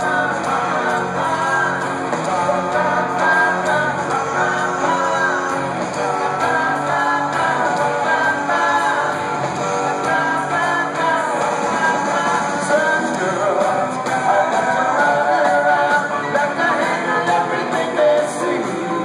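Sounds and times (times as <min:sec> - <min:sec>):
drums: 0:00.0 - 0:19.0
electric guitar: 0:00.0 - 0:19.0
keyboards: 0:00.0 - 0:19.0
person singing: 0:00.0 - 0:19.0.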